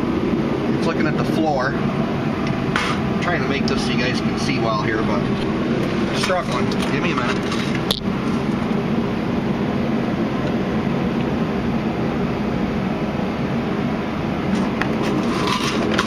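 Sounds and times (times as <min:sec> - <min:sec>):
mechanical drone: 0:00.0 - 0:16.0.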